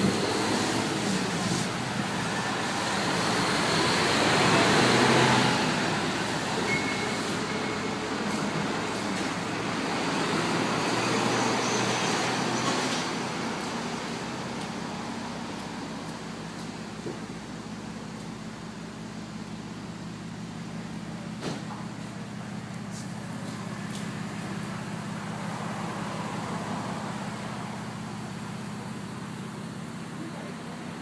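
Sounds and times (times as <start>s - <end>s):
traffic engine hum: 0.0s - 31.0s.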